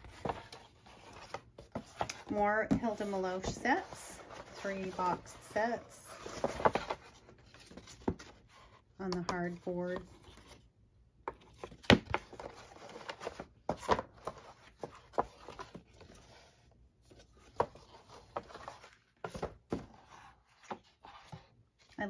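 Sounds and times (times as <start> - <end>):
cardboard rustling and scraping: 0.0 - 10.7, 11.3 - 22.0.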